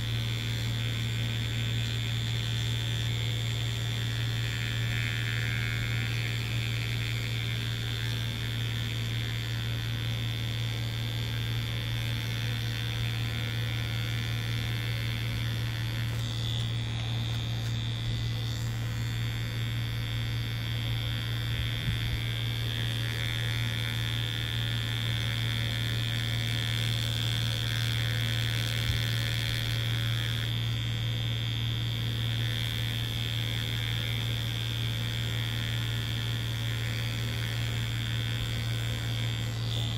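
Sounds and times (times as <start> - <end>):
tattoo machine buzzing: 0.0 - 39.9.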